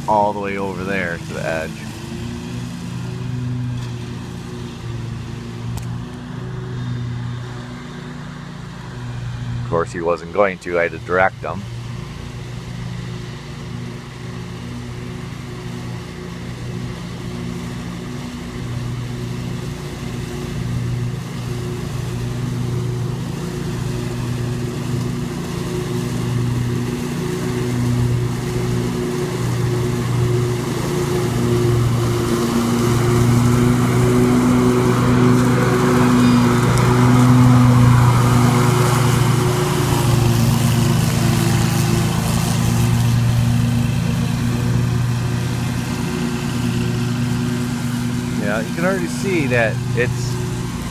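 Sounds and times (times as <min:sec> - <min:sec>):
lawn mower engine running: 0:00.0 - 0:50.9.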